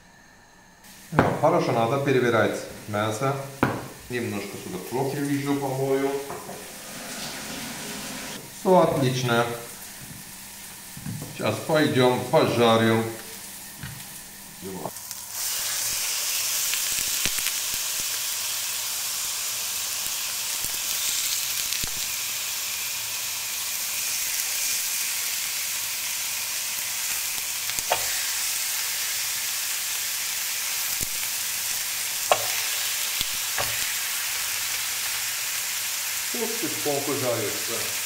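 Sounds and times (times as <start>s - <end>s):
meat sizzling in a grill pan: 0.9s - 38.0s.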